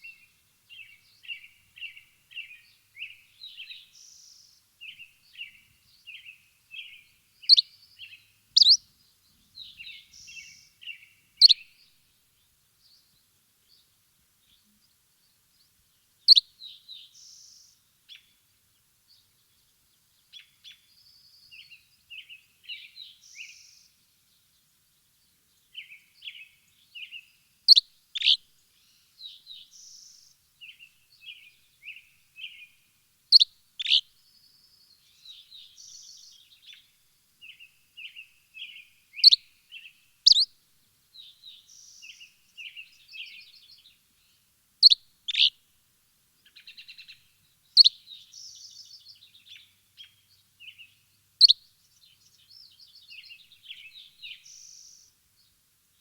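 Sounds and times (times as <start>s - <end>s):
small birds chirping: 0.0s - 45.6s, 46.3s - 56.0s.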